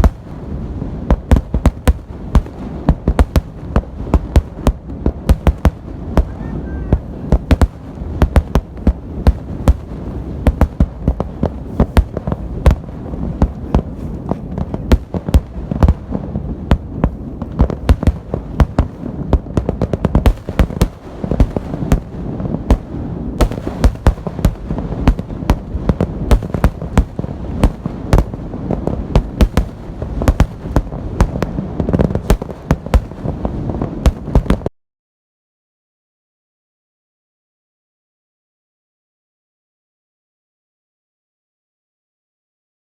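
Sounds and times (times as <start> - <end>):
fireworks bursting with sharp bangs: 0.0 - 34.7
low rumble of explosions: 0.0 - 34.7.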